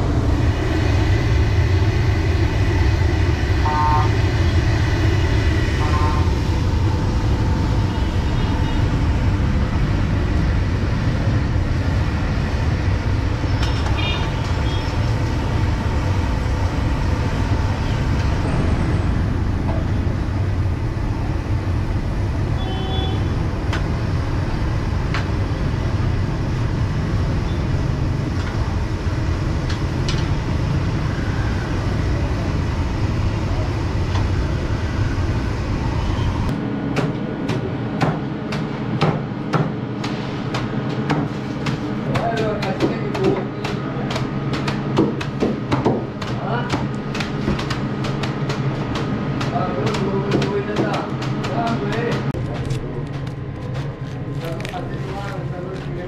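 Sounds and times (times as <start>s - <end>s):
gas burner roaring: 0.0s - 56.0s.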